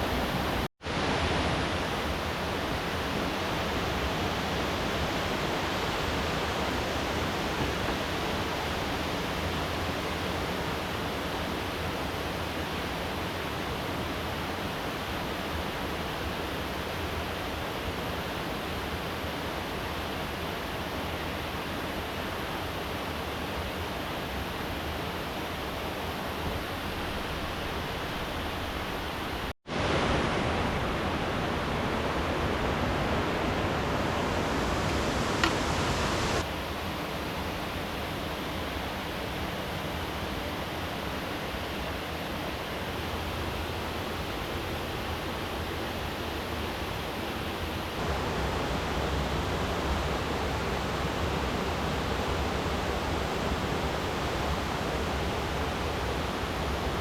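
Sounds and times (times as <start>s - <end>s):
flowing river water rushing: 0.0s - 57.0s.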